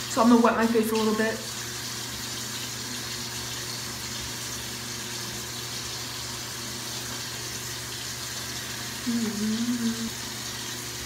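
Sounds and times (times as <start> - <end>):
sink tap running water: 0.0 - 11.0.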